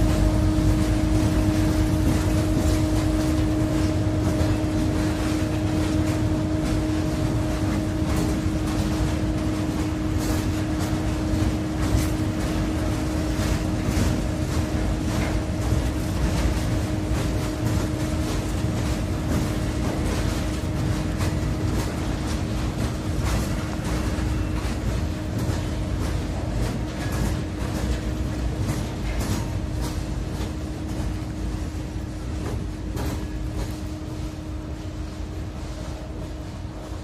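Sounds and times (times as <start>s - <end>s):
wheels clicking over track: 0.0s - 34.7s
freight train rumbling past: 0.0s - 37.0s
steady hum: 0.0s - 37.0s.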